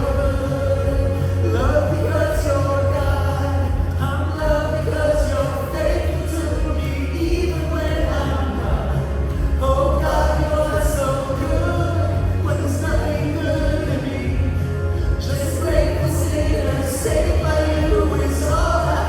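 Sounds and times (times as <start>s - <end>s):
people singing: 0.0s - 19.0s
worship band music: 0.0s - 19.0s.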